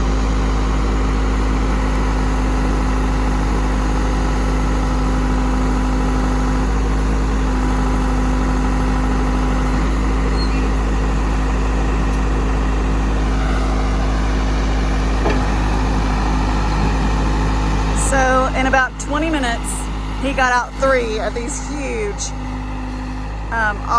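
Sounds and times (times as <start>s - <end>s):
backhoe engine running: 0.0s - 23.9s.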